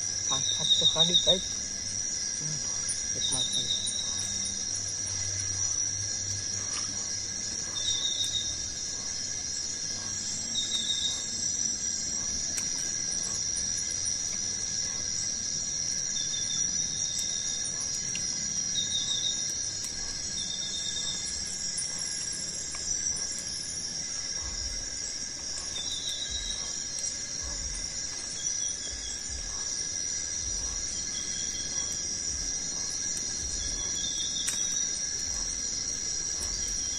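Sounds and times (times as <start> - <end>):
insects buzzing chorus: 0.0 - 36.9
trilled insect chirps: 0.0 - 36.9.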